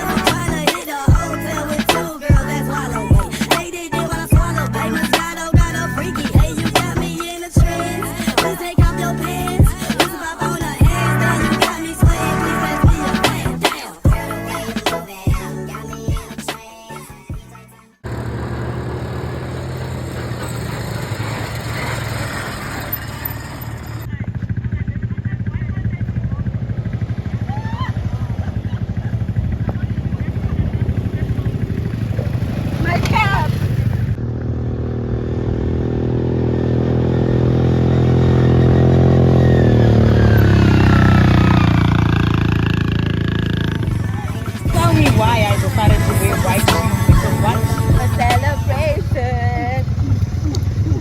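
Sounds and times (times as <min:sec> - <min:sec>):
quad bike engine running: 0:00.0 - 0:16.3, 0:18.0 - 0:51.0.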